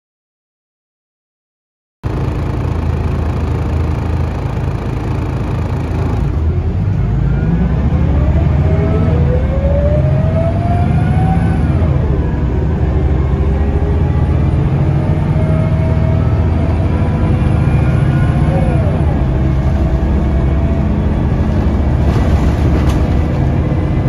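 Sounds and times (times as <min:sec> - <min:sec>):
gearbox whine rising with speed: 0:02.0 - 0:22.1
bus diesel engine droning: 0:02.0 - 0:24.0.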